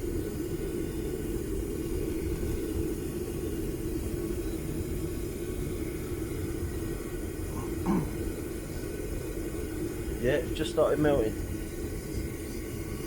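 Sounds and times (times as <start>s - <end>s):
burner rumbling: 0.0s - 13.0s.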